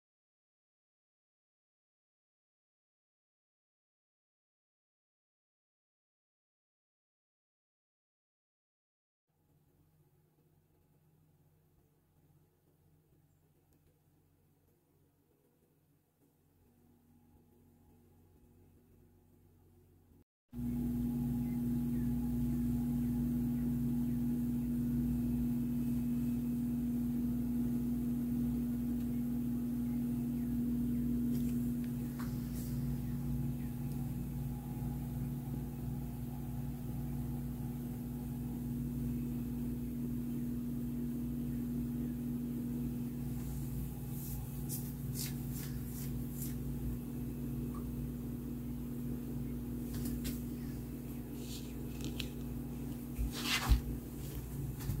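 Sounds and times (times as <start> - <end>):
steady low hum: 9.4 - 55.0.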